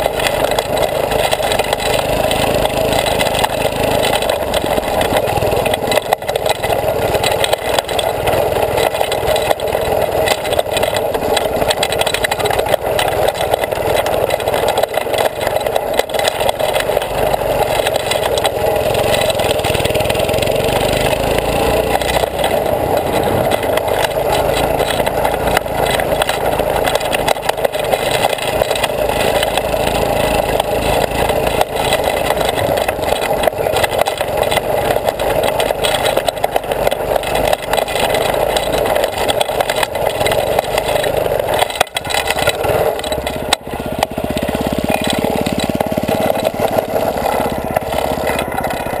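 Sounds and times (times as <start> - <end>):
go-kart engine running: 0.0 - 49.0.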